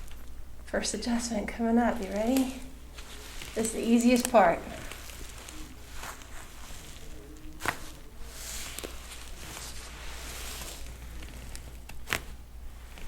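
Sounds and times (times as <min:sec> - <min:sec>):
soft rustling: 0:00.0 - 0:13.0.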